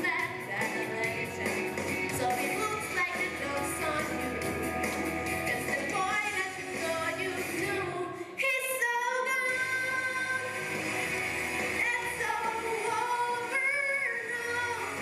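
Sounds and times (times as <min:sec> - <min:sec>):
woman singing: 0:00.0 - 0:04.6, 0:05.4 - 0:10.6, 0:11.8 - 0:15.0
pop backing track: 0:00.0 - 0:08.6, 0:09.3 - 0:15.0.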